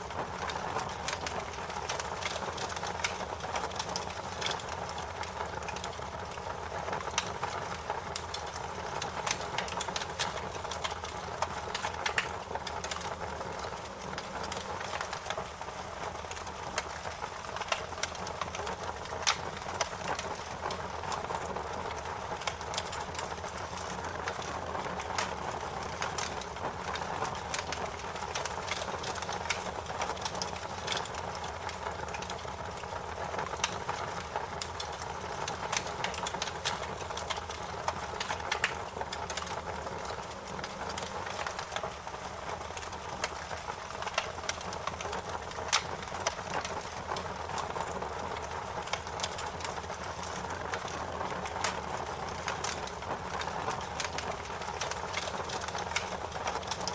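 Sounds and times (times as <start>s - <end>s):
fire crackling: 0.0s - 56.9s
fire popping and snapping: 0.0s - 56.9s.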